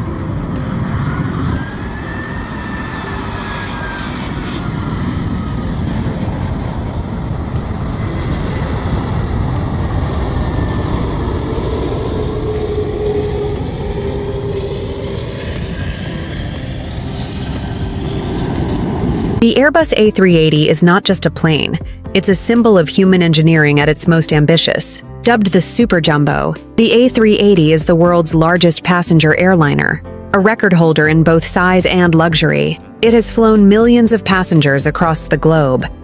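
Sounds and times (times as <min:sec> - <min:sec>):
high engine whine: 0:00.0 - 0:36.0
jet engines rumbling: 0:00.0 - 0:36.0.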